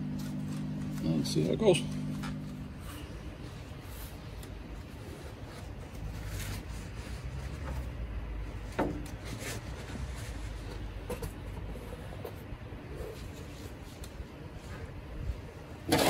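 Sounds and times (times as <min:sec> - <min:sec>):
low steady rumble: 0:00.0 - 0:15.9.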